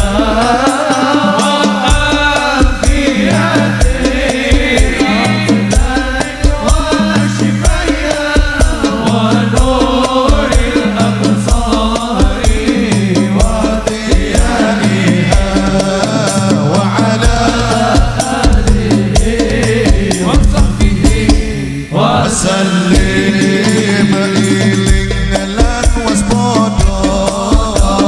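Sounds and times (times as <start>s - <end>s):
percussion rhythm with heavy bass: 0.0s - 28.0s
voices singing devotional music: 0.0s - 28.0s.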